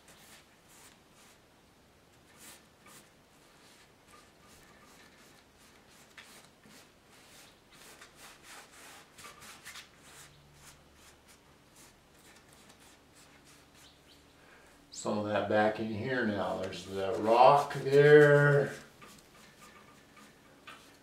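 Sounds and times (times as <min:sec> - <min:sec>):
brush dabbing paint on canvas: 0:00.0 - 0:01.4, 0:02.2 - 0:14.1, 0:16.4 - 0:21.0.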